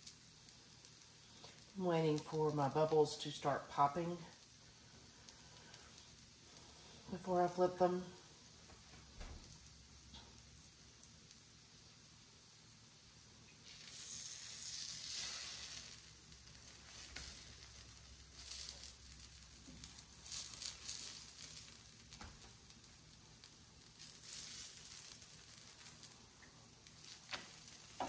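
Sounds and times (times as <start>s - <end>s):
pancakes sizzling on griddle: 0.0s - 28.0s.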